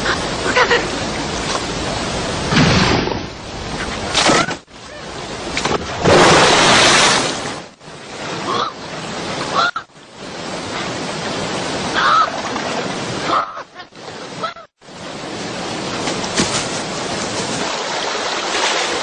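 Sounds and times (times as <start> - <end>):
rushing river water: 0.0 - 19.0.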